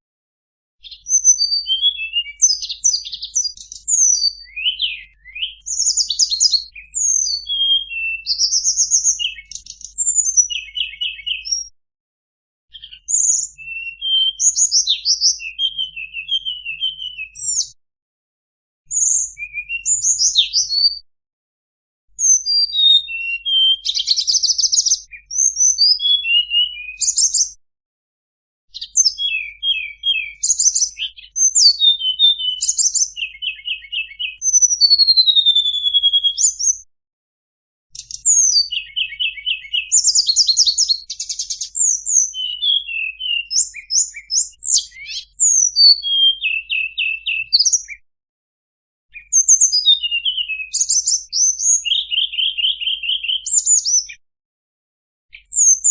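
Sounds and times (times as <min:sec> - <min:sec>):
bird song chirps and trills: 0:00.8 - 0:11.7, 0:12.7 - 0:17.8, 0:18.9 - 0:21.0, 0:22.2 - 0:27.6, 0:28.7 - 0:36.9, 0:37.9 - 0:48.0, 0:49.1 - 0:54.2, 0:55.3 - 0:55.9.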